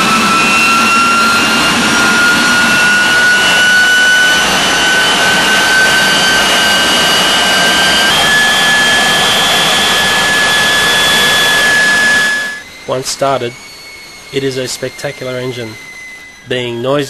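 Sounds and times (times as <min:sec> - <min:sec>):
high compressor whine: 0:00.0 - 0:17.0
jet engine exhaust rush: 0:00.0 - 0:17.0.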